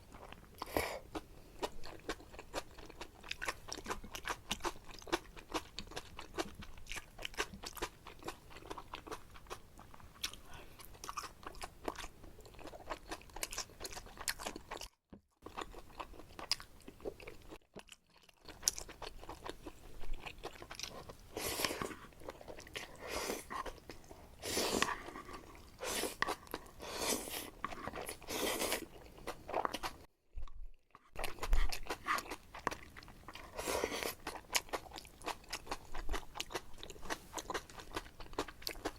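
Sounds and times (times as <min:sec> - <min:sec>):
wet chewing of noodles: 0:00.0 - 0:30.1, 0:30.8 - 0:38.9.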